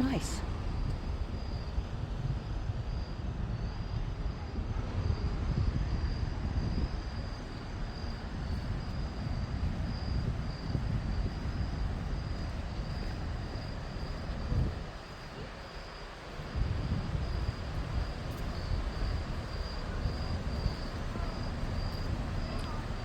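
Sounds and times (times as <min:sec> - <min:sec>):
insects trilling: 0:00.0 - 0:05.2, 0:06.1 - 0:23.0.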